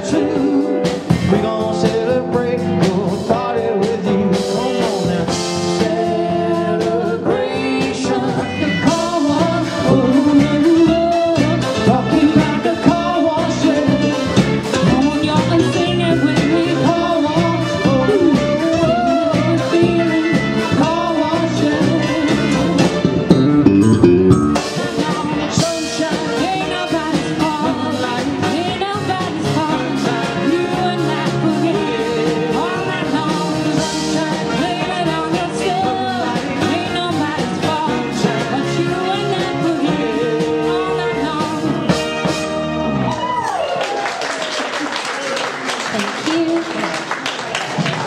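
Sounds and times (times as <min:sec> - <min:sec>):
live band with vocals: 0:00.0 - 0:48.0.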